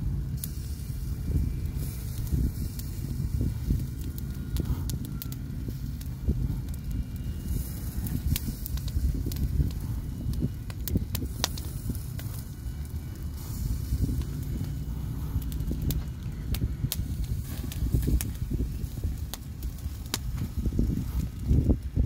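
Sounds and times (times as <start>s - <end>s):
steady low rumble: 0.0s - 22.0s
wood fire crackling and popping: 0.0s - 22.0s.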